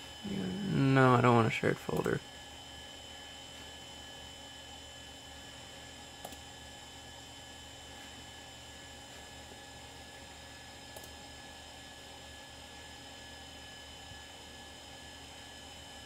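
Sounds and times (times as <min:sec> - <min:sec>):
computer hum and fan noise: 0:00.0 - 0:16.0.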